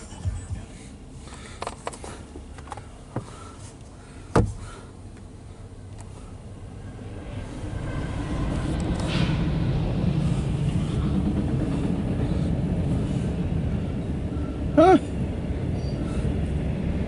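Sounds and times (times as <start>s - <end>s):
freight train locomotive rumble: 0.0s - 17.0s.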